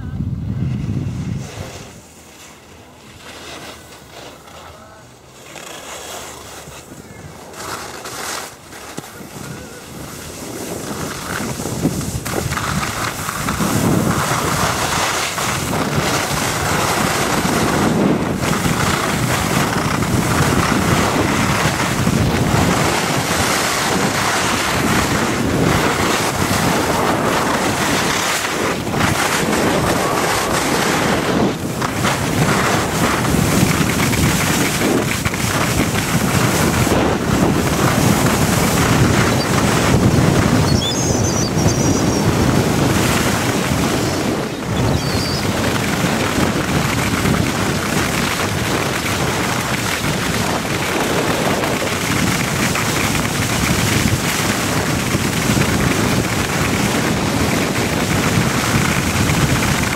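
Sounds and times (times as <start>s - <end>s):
wind rushing over microphone: 0.0s - 5.4s, 6.1s - 59.9s
skis scraping on snow: 0.5s - 59.9s.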